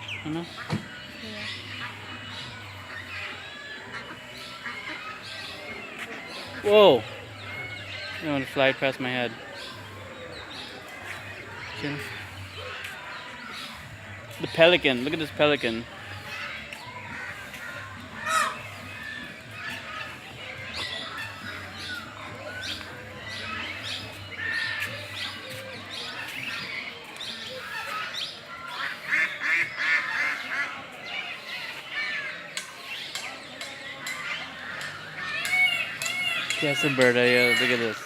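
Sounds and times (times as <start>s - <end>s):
many birds calling: 0.0s - 38.0s.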